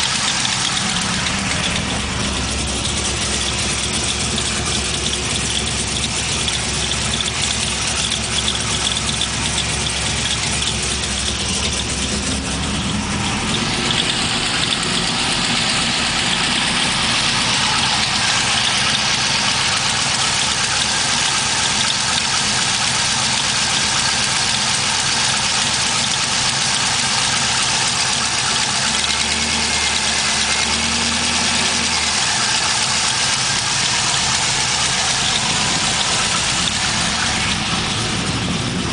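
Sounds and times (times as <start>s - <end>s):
fast even ticking: 0.0s - 38.9s
vee-eight engine idling: 0.0s - 38.9s.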